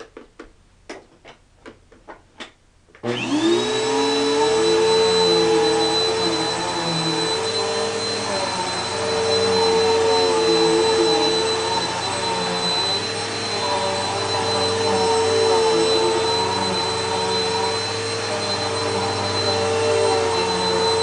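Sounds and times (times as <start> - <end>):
vacuum cleaner whining: 3.0 - 21.0.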